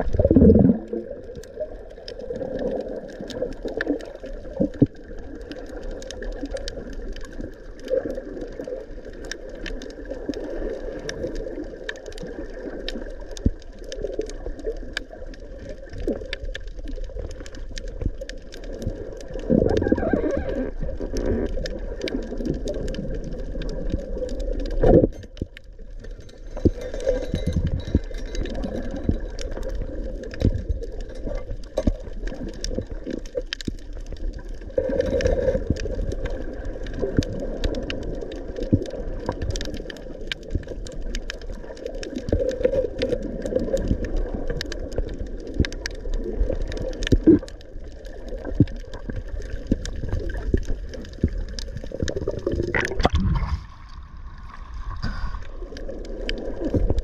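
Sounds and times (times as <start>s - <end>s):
muffled underwater rumble: 0.0s - 57.0s
sharp clicks and crackles: 0.0s - 57.0s.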